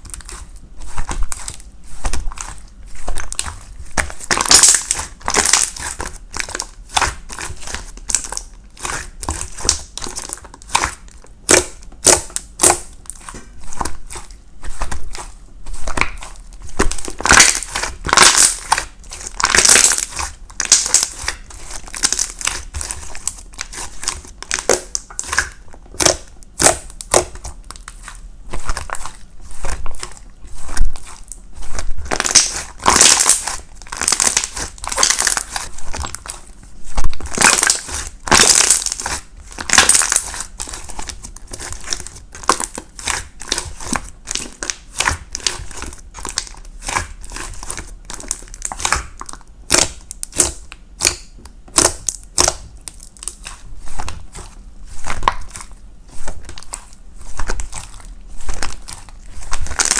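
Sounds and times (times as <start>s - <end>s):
crinkling and crushing: 0.0s - 59.9s.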